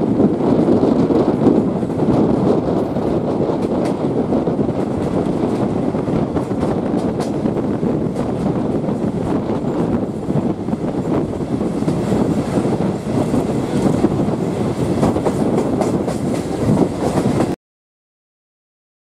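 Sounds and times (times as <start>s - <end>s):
train wheels rumbling on rails: 0.0s - 17.6s
wind buffeting microphone: 0.0s - 17.6s.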